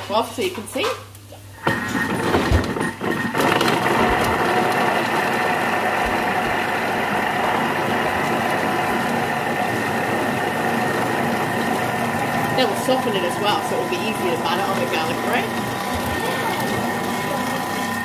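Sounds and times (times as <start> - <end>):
food processor motor running: 1.6 - 18.0.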